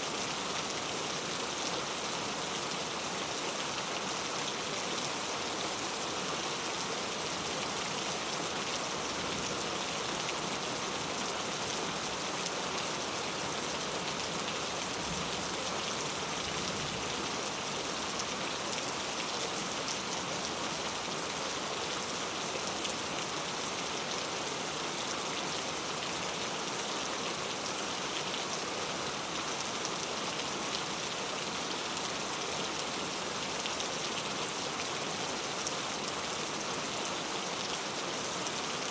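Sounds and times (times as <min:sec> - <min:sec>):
rain falling on a puddle: 0:00.0 - 0:38.9.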